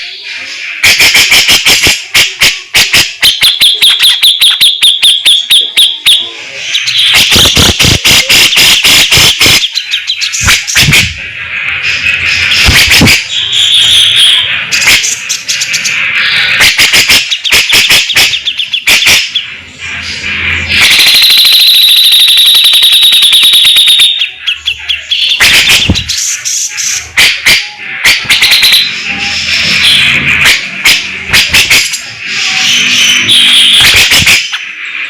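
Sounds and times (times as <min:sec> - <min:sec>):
bird chattering calls: 0:00.0 - 0:21.1, 0:24.0 - 0:35.0.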